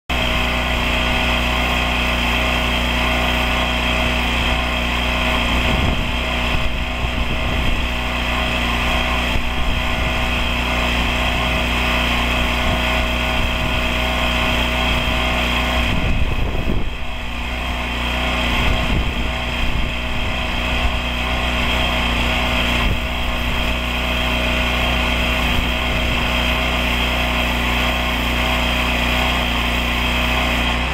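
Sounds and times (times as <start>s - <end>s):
pressure washer engine running: 0.1s - 30.9s
water jet hissing on wall: 0.2s - 30.9s.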